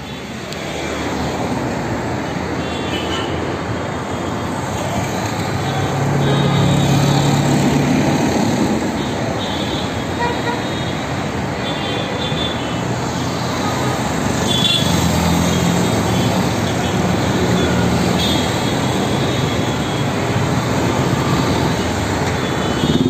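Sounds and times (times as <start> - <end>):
traffic passing: 0.0 - 23.0.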